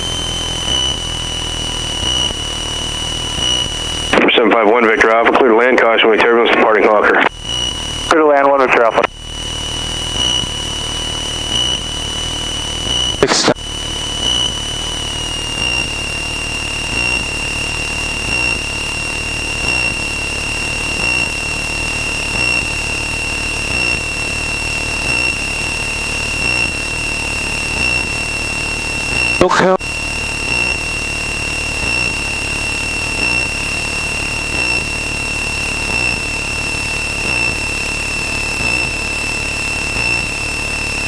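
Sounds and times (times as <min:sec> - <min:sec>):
aircraft engine drone: 0:00.0 - 0:41.0
high-pitched whine: 0:00.0 - 0:41.0.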